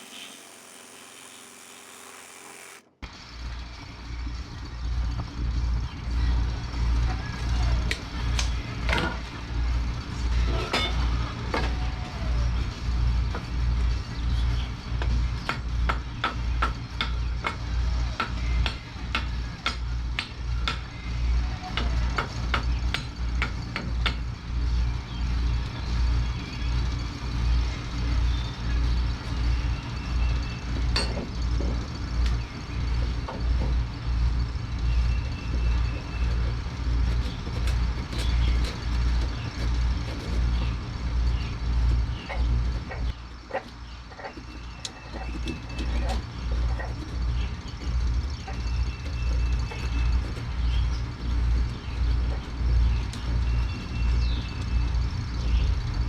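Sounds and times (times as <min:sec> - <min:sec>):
pulsing mechanical rumble: 0:00.0 - 0:56.0.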